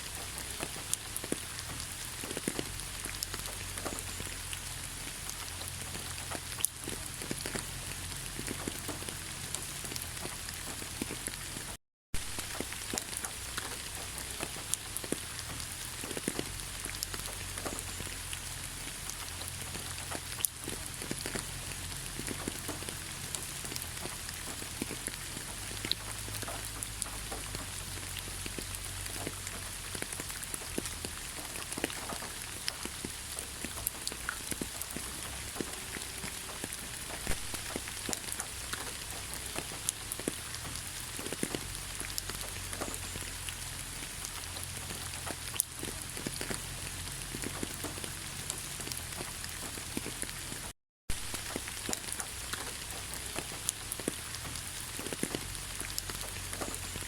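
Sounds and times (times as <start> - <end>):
raindrops ticking: 0.0 - 57.0
steady rain patter: 0.0 - 57.0.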